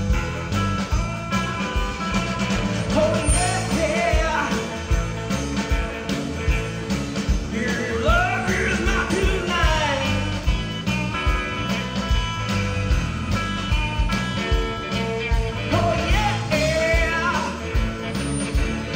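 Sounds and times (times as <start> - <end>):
live rock band playing: 0.0 - 18.9
melodic guitar lines: 0.0 - 18.9.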